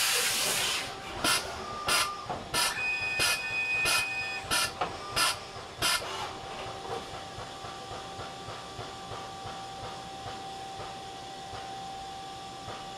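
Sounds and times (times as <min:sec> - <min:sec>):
machine whine: 0:00.0 - 0:12.9.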